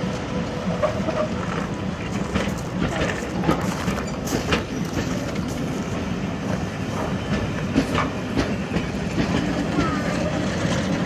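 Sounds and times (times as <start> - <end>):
train coaches rumbling past: 0.0 - 11.0
wheels clicking over rail joints: 0.1 - 11.0.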